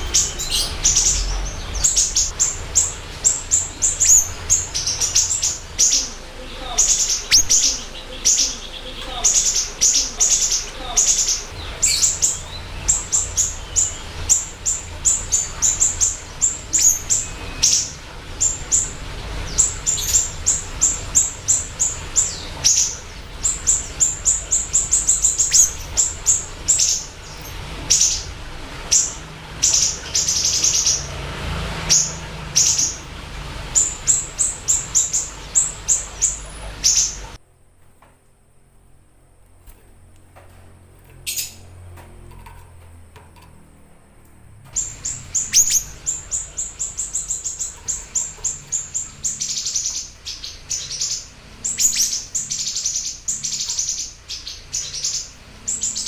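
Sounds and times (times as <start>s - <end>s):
bird singing high chirps: 0.0s - 31.2s, 31.8s - 37.4s, 44.7s - 56.0s.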